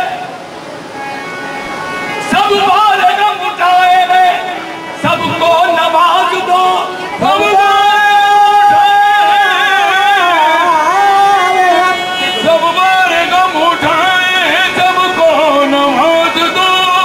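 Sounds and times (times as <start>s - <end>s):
person singing long ornamented notes: 0.0s - 17.0s.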